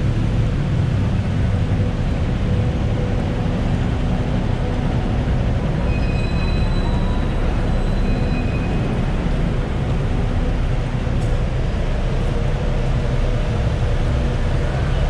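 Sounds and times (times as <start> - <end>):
heavy traffic rumble: 0.0 - 15.0.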